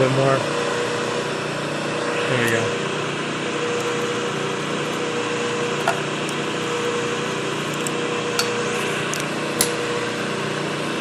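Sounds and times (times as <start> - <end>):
milling machine cutting steel: 0.1 - 10.4.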